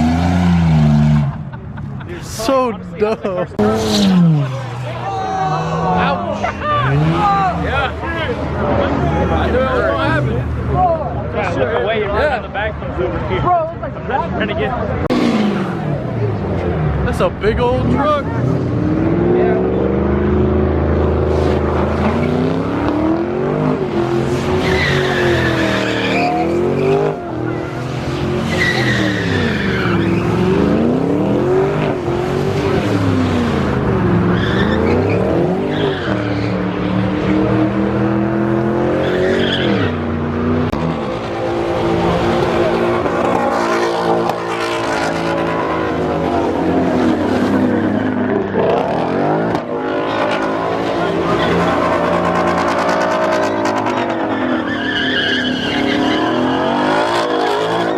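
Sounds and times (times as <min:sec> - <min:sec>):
car engine revving: 0:00.0 - 0:02.7, 0:03.4 - 0:11.0, 0:14.2 - 0:57.9
tires squealing: 0:03.4 - 0:57.9.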